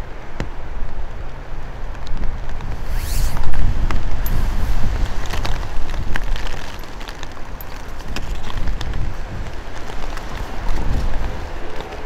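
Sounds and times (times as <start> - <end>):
rain ticks: 0.3 - 2.8, 3.4 - 12.0
wind buffeting microphone: 0.6 - 12.0.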